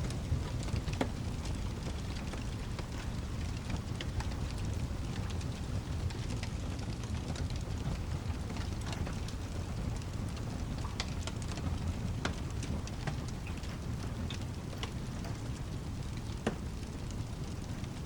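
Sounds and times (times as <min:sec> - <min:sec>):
fireplace crackling: 0:00.0 - 0:18.0
steady rain: 0:00.0 - 0:18.0.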